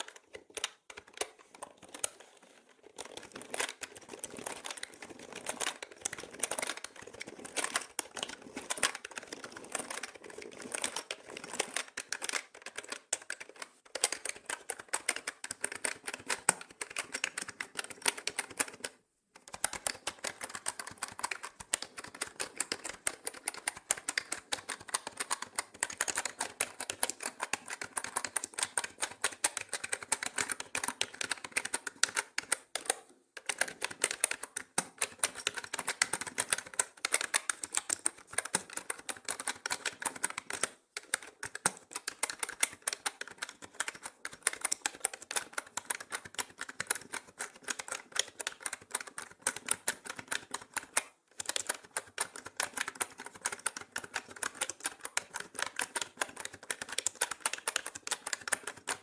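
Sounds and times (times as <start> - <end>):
typing on mechanical keyboard: 0.0 - 59.0.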